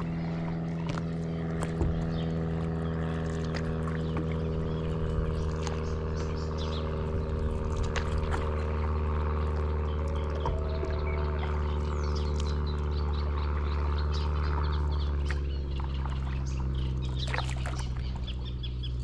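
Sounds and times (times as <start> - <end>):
water splashing and dripping: 0.0 - 12.9, 15.2 - 19.0
motor humming: 0.0 - 19.0.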